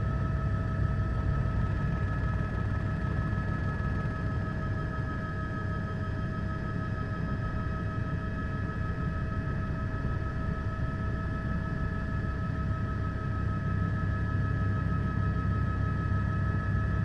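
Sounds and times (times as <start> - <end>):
helicopter rotor rumble: 0.0 - 17.0
helicopter whine: 0.0 - 17.0.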